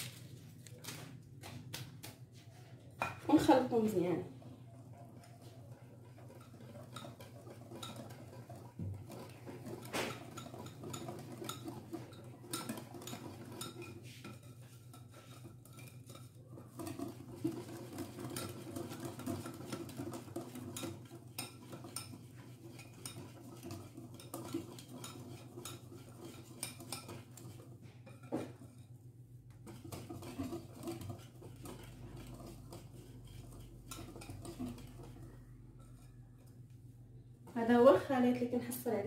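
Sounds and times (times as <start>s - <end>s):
wire whisk scraping a plastic bowl: 3.3s - 36.6s.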